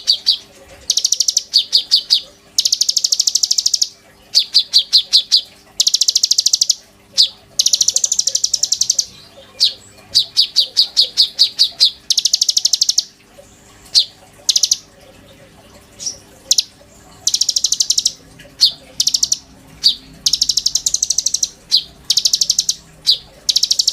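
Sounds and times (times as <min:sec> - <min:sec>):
songbird singing: 0:00.0 - 0:14.9, 0:15.9 - 0:23.9.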